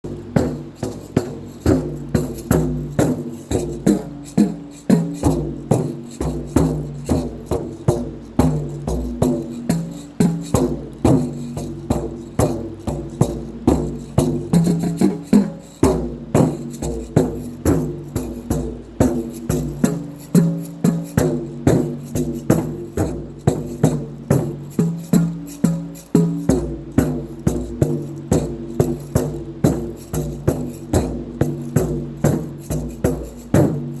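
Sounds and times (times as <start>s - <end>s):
maracas shaking: 0.0s - 34.0s
pitched drums in steady rhythm: 0.0s - 34.0s.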